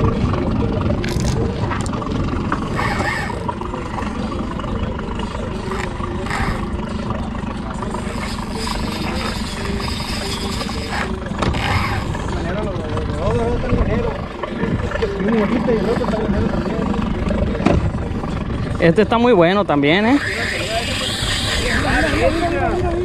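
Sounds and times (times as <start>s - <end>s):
boat engine running: 0.0s - 23.0s.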